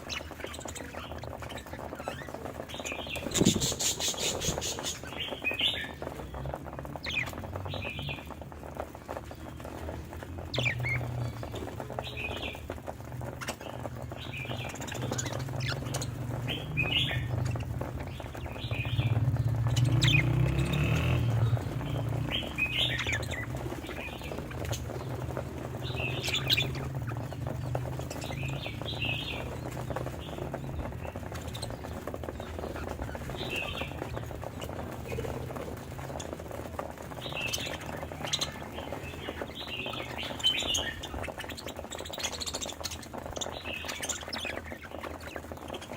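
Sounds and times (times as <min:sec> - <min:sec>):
budgerigars chirping: 0:00.0 - 0:45.9.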